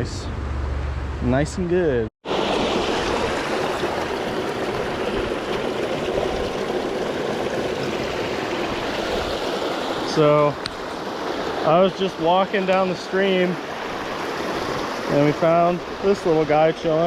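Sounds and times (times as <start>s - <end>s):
stream water rushing: 2.2s - 17.0s.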